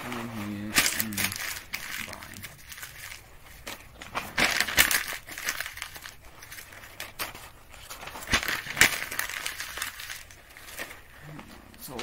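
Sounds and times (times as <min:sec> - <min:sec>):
paper being crumpled: 0:00.0 - 0:12.0.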